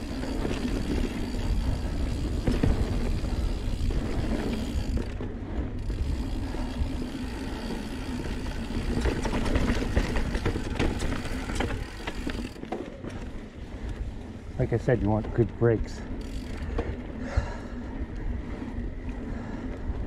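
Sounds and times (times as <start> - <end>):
bike clicks and rattles: 0.0 - 20.0
tyres rumbling on dirt trail: 0.0 - 20.0.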